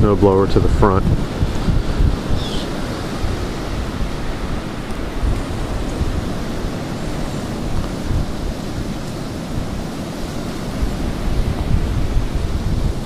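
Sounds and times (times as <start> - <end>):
wind blowing over microphone: 0.0 - 13.0.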